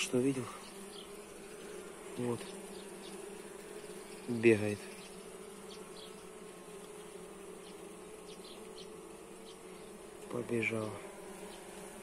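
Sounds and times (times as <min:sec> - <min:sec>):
honeybee swarm humming: 0:00.0 - 0:12.0.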